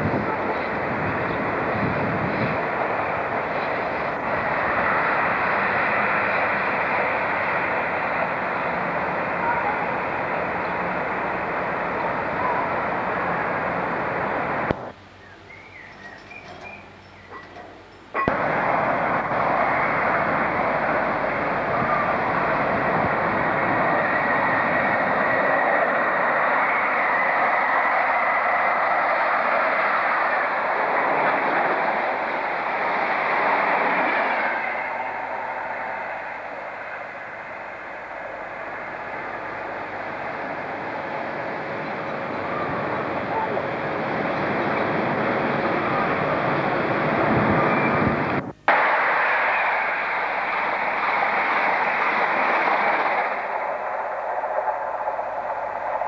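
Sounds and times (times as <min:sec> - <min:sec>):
diesel train engines droning: 0:00.0 - 0:56.0.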